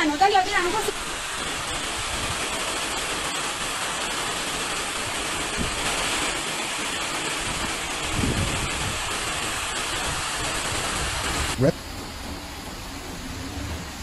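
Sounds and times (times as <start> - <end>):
heavy rain: 0.0 - 14.0
water pouring over a ledge: 0.3 - 11.7.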